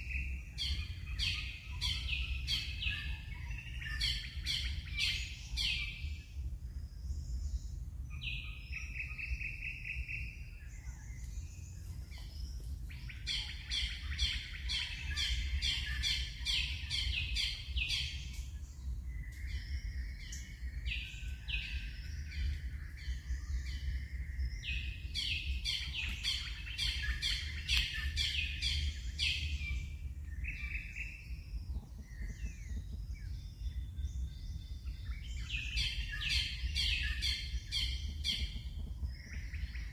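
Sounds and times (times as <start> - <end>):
birds chirping and singing: 0.0 - 39.9
steady low rumble: 0.0 - 39.9.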